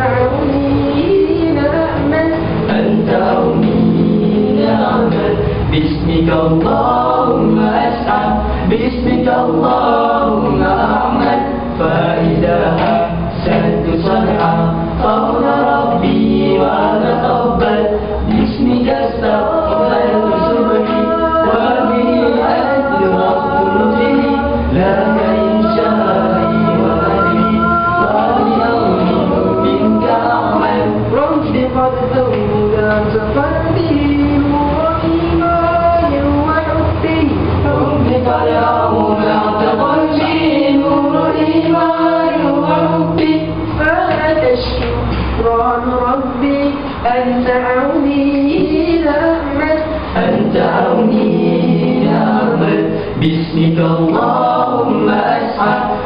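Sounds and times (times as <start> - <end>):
male group singing a cappella: 0.0 - 56.0.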